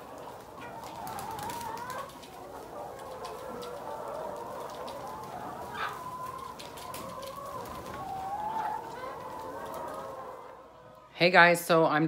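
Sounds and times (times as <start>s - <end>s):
hens clucking: 0.0s - 11.2s.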